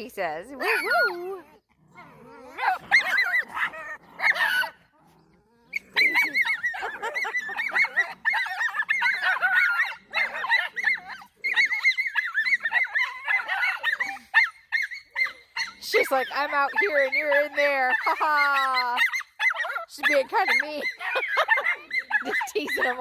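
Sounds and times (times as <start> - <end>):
puppy whining and yipping: 0.5 - 23.0.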